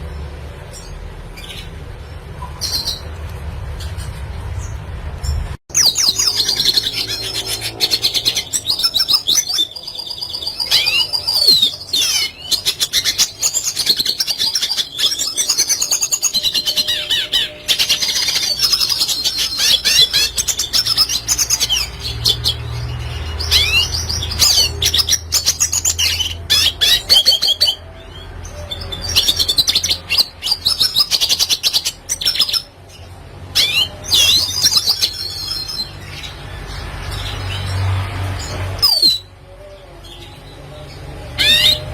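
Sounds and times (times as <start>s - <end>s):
bird twittering song: 0.0s - 41.9s.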